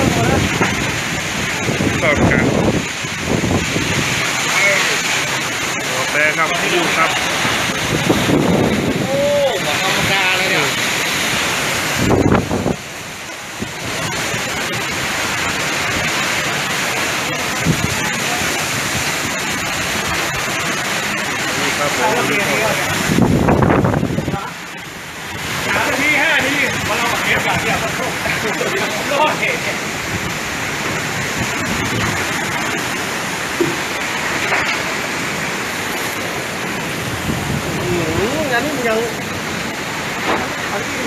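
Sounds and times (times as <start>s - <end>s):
heavy rain pouring: 0.0s - 41.0s
strong wind: 0.0s - 41.0s.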